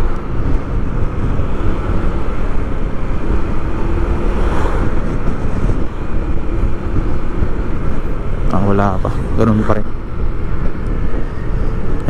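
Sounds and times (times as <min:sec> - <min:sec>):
vehicle running rumble: 0:00.0 - 0:12.0
wind buffeting microphone: 0:00.0 - 0:12.0.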